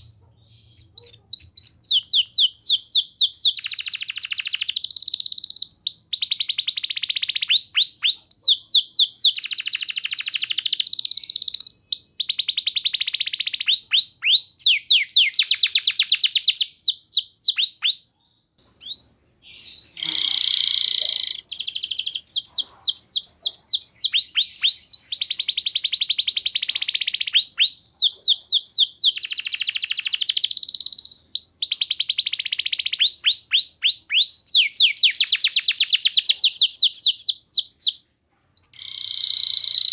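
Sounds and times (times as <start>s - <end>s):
canary singing trills: 0.0s - 38.0s, 38.6s - 39.9s.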